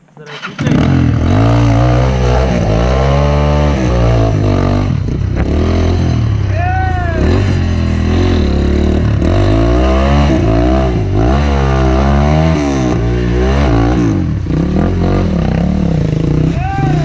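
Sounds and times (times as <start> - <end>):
dirt bike engine revving: 0.2 - 17.0.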